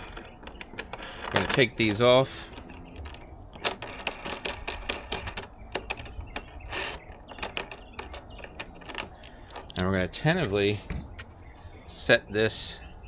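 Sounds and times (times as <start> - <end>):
hardware clicking and rattling: 0.0 - 11.3.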